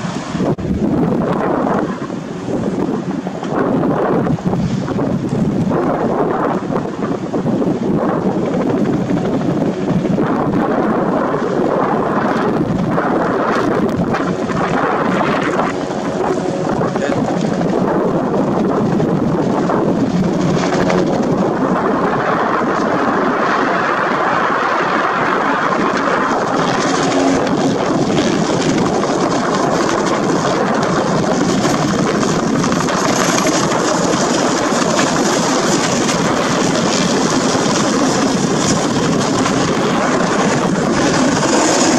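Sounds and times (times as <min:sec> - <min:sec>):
helicopter rotor and engine: 0:00.0 - 0:41.9.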